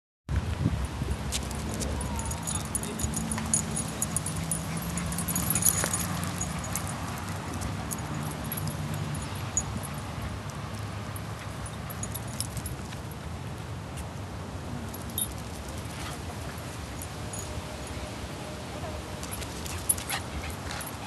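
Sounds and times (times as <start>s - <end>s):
collar tags jingling: 1.1s - 13.3s, 14.8s - 18.2s, 18.8s - 21.0s
dogs playing: 1.2s - 13.4s, 14.9s - 17.8s, 18.8s - 21.0s.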